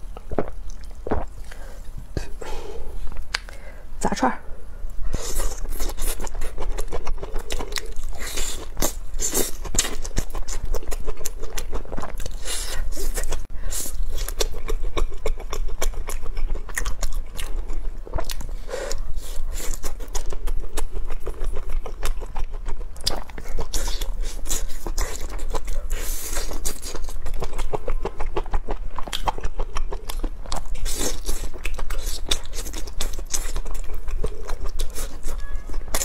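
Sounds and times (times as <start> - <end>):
person chewing crunchy food: 0.0 - 3.5, 5.0 - 36.0
low steady hum: 0.0 - 36.0.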